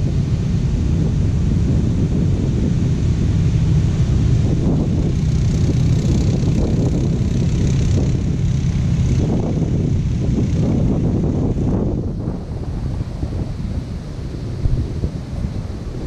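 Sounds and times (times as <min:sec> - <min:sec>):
quad bike engine passing: 0:00.0 - 0:16.0
wind on microphone: 0:00.0 - 0:16.0.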